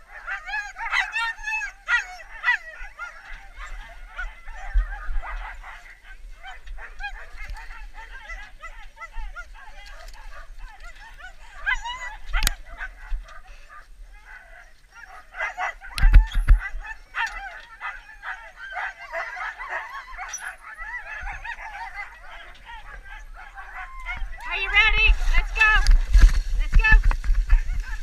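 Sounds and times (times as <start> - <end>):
sled dogs yelping and barking: 0.0 - 28.0.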